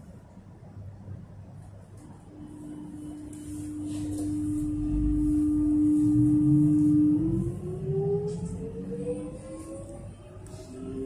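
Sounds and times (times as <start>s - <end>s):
low train carriage rumble: 0.0s - 11.0s.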